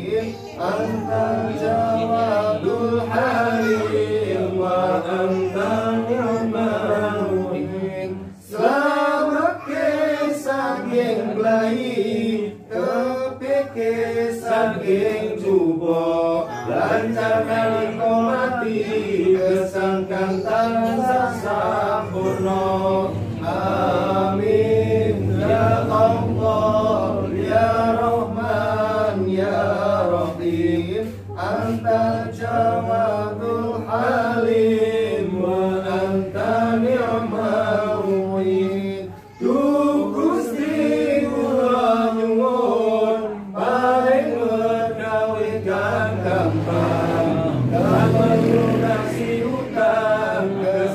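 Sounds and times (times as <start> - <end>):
men chanting a prayer: 0.0 - 50.9.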